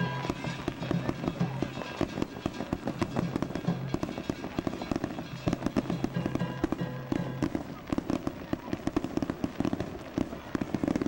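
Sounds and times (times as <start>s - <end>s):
festival music with pulsing rhythm: 0.0s - 11.0s
fireworks popping and crackling: 0.0s - 11.0s.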